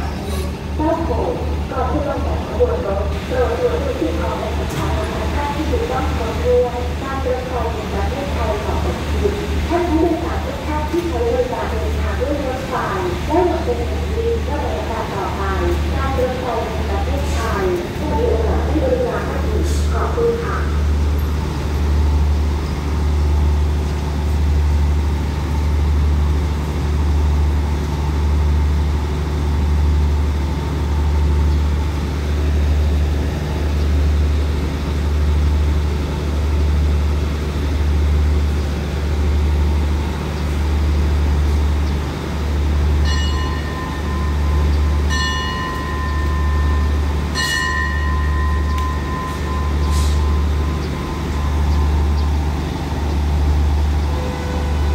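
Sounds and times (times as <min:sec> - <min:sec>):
diesel train engine idling: 0:00.0 - 0:54.9.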